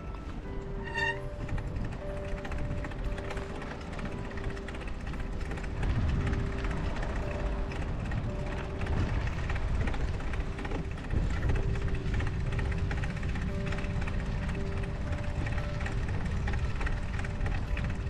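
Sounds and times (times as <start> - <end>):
faint sustained music notes: 0.0 - 18.0
wind rumbling on microphone: 0.0 - 18.0.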